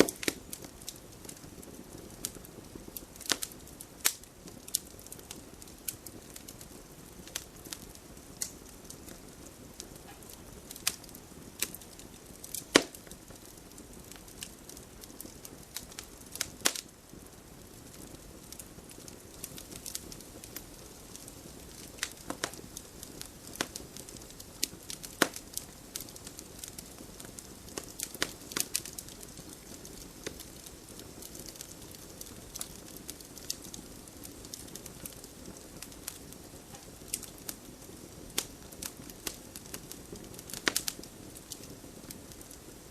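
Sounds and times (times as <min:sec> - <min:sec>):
campfire crackling: 0:00.0 - 0:42.9
low steady hiss: 0:00.0 - 0:42.9.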